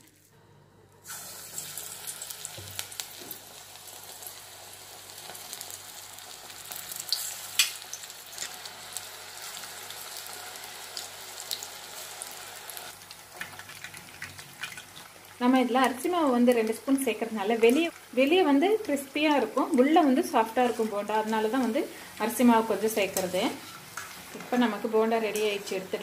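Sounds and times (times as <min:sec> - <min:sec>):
batter deep-frying in hot oil: 0:01.0 - 0:26.0.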